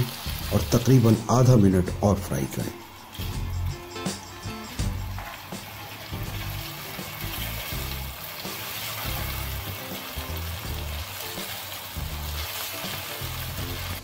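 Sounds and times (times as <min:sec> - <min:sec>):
background music with bass: 0:00.0 - 0:12.5, 0:13.2 - 0:14.0
meat sizzling while stirred: 0:00.0 - 0:14.0.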